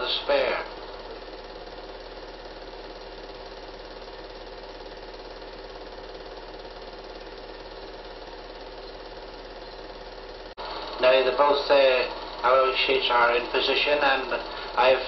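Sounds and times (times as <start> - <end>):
film projector clatter: 0.0 - 15.0
low mains hum: 0.0 - 15.0.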